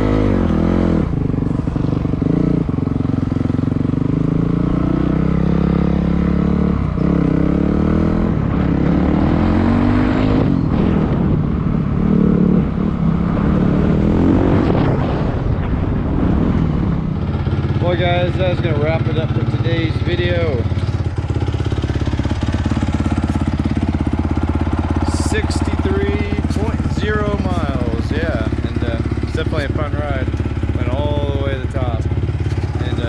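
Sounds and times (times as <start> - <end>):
dirt bike engine revving: 0.0 - 15.5, 17.2 - 33.0.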